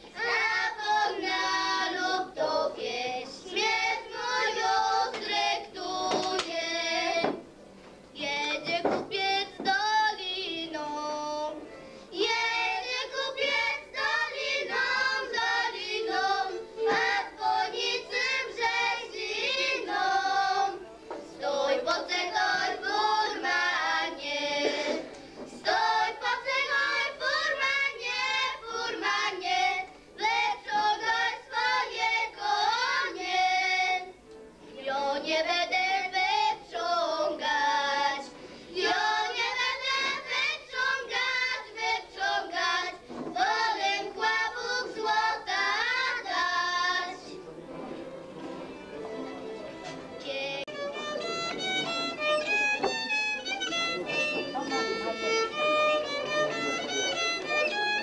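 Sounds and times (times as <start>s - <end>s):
girls singing a cappella: 0.0s - 7.5s, 8.2s - 47.4s.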